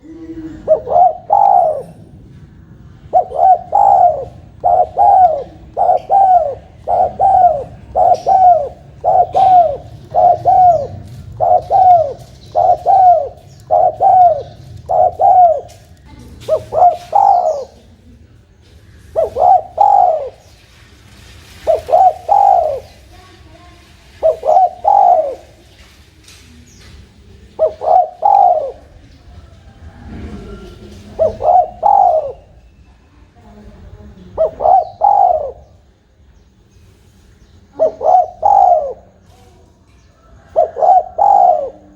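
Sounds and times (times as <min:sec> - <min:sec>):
dove cooing: 0:00.0 - 0:20.7, 0:21.4 - 0:25.9, 0:26.7 - 0:32.6, 0:34.1 - 0:36.0, 0:37.6 - 0:39.5, 0:40.1 - 0:41.9.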